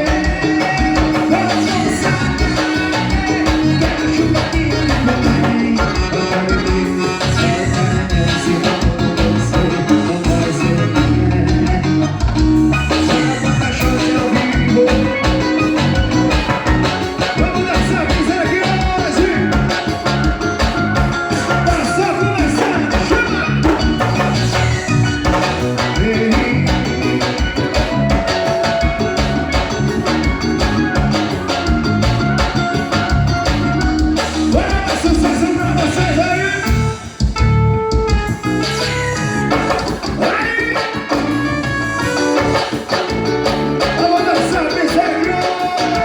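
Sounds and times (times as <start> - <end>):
band music with driving beat: 0.0 - 46.0.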